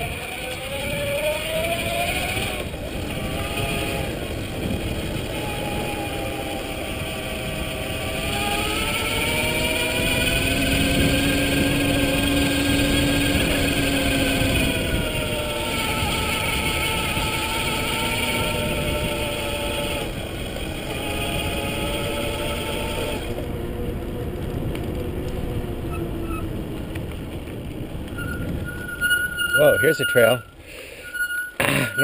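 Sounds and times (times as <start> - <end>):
electric bike motor whining: 0.0 - 32.0.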